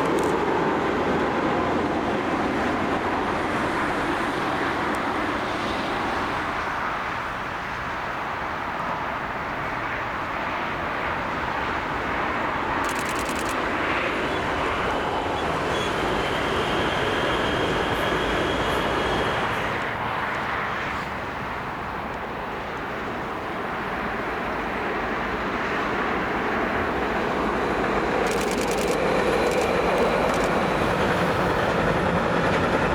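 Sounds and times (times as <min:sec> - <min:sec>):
train rushing past: 0:00.3 - 0:32.9.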